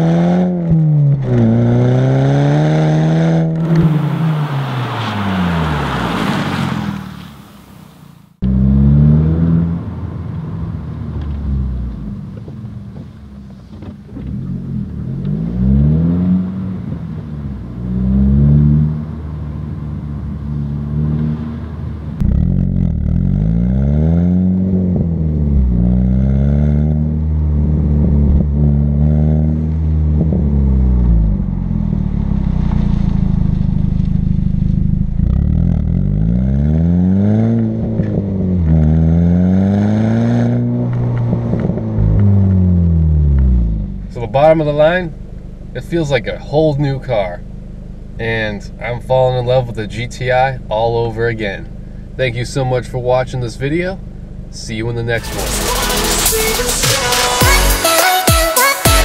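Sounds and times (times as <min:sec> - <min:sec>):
car engine revving through exhaust: 0:00.0 - 0:57.7.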